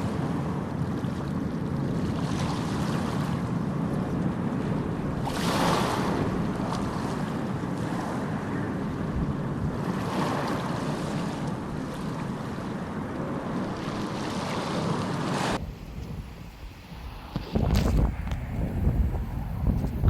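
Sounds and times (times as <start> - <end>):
sea waves washing on shore: 0.0 - 20.0
wind buffeting microphone: 0.0 - 20.0.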